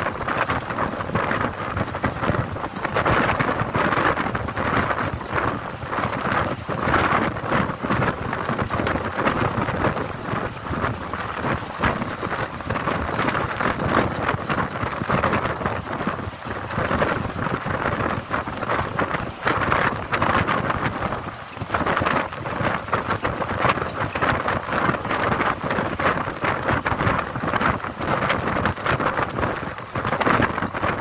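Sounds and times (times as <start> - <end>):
vehicle road noise: 0.0 - 31.0
wind buffeting microphone: 0.0 - 31.0.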